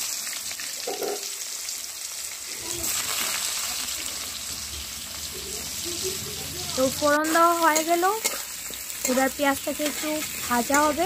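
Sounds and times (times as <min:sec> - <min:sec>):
oil bubbling: 0:00.0 - 0:11.0
onions sizzling in hot oil: 0:00.0 - 0:11.0.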